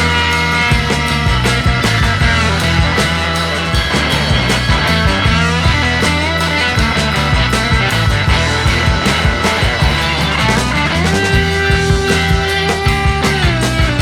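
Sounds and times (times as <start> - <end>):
rock song with guitars: 0.0 - 14.0.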